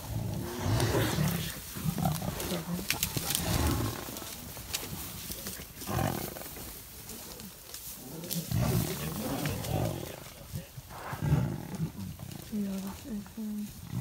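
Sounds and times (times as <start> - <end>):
lions growling: 0.0 - 14.0.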